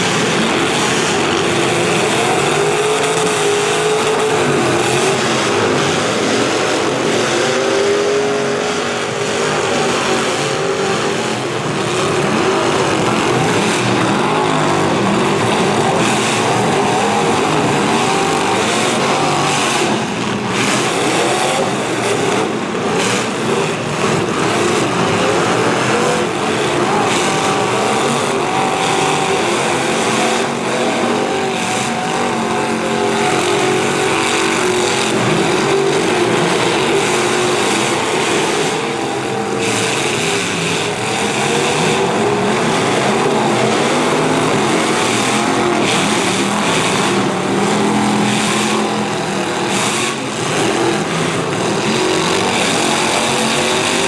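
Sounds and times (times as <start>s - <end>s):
car engines revving: 0.0s - 54.0s
cars crashing: 0.0s - 54.0s.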